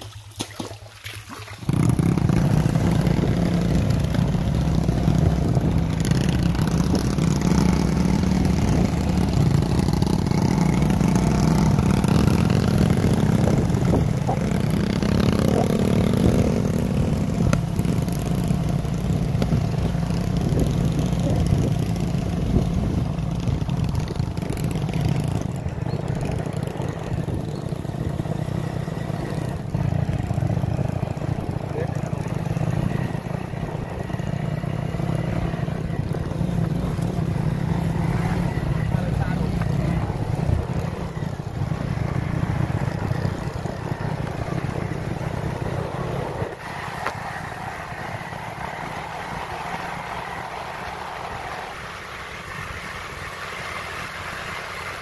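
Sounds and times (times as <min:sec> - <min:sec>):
motorcycle engines running: 0:01.6 - 0:55.0.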